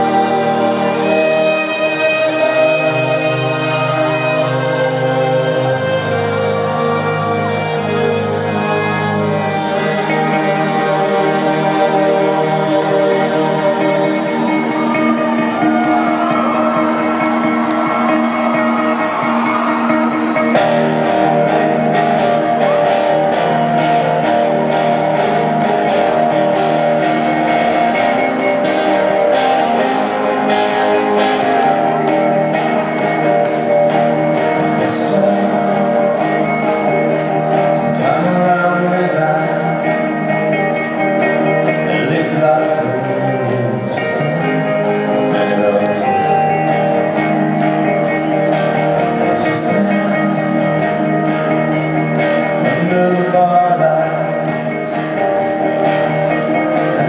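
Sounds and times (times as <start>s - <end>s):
electric guitar: 0.0s - 57.0s
live rock band playing: 0.0s - 57.0s.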